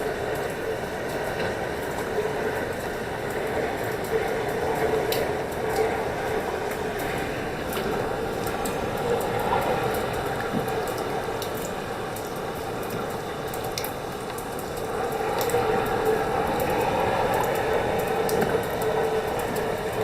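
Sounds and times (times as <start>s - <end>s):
roar of wind and water: 0.0s - 20.0s.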